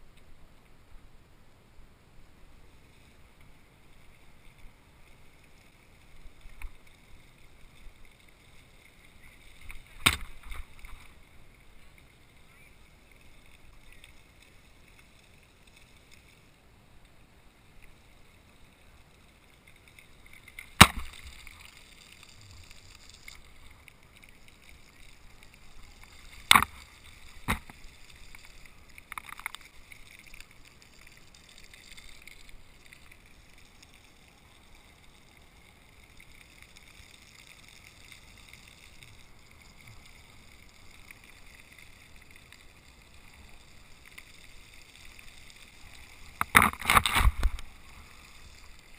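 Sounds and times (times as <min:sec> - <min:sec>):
bicycle tyres on wet concrete: 0:02.5 - 0:48.9.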